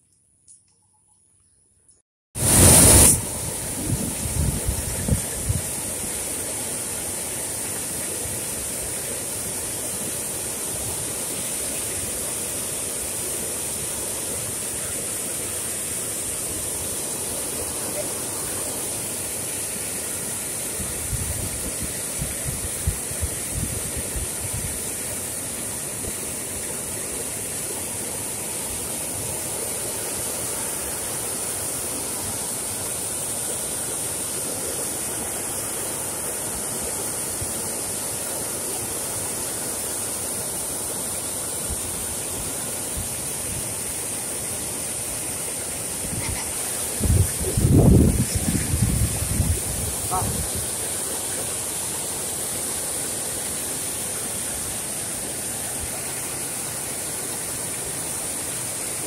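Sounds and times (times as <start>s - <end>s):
floodwater rushing over spillway: 2.4s - 59.0s.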